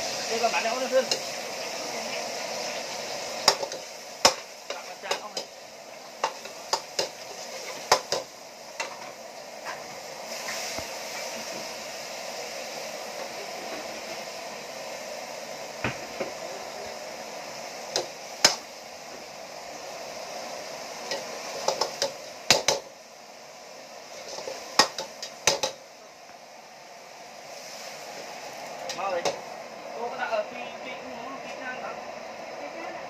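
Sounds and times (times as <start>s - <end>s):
meat sizzling in a wok: 0.0s - 33.0s.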